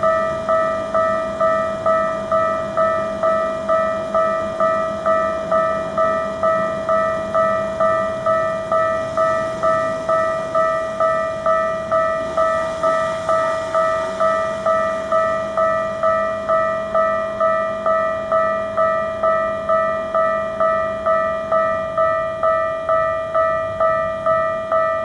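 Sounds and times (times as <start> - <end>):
level crossing alarm ringing: 0.0 - 25.0
train rumbling past: 0.0 - 25.0.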